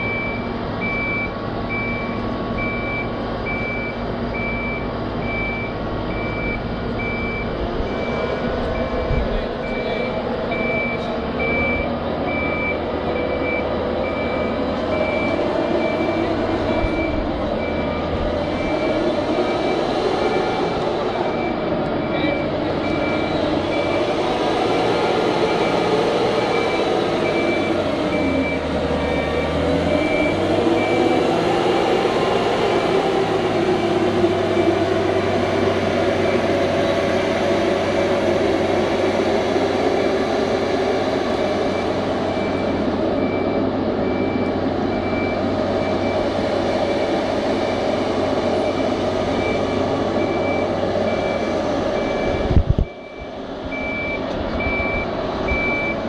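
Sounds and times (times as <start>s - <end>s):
travel alarm beeping: 0.0s - 37.2s, 38.1s - 56.0s
travel lift engine running: 0.0s - 56.0s.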